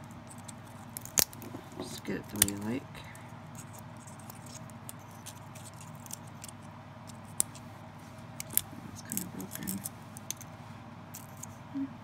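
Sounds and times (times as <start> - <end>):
pine cone scales rustling: 0.0 - 11.7.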